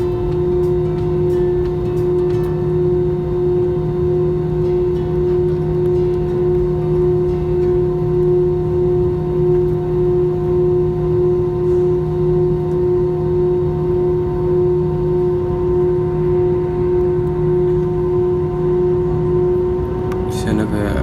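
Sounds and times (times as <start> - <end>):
jet engine drone in cabin: 0.0 - 21.0.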